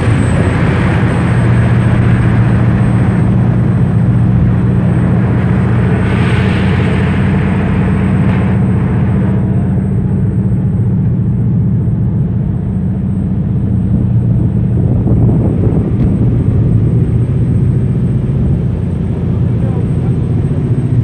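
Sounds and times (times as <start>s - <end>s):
boat engine droning: 0.0s - 21.0s
rushing water and wind: 0.0s - 21.0s.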